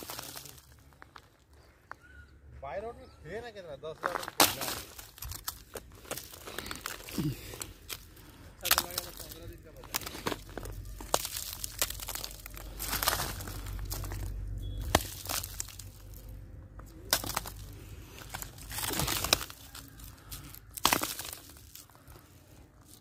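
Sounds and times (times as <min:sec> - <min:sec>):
coal pieces knocking and scraping: 0:00.0 - 0:01.2, 0:04.0 - 0:22.2
rustling handling noise: 0:03.8 - 0:23.0.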